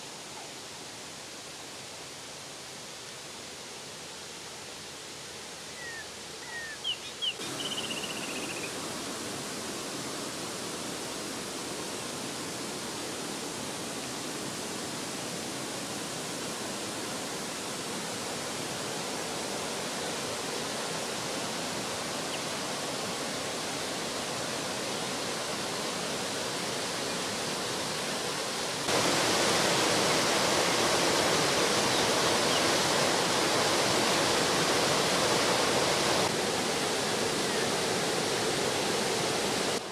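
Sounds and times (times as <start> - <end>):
stream rushing over waterfall: 0.0 - 39.9.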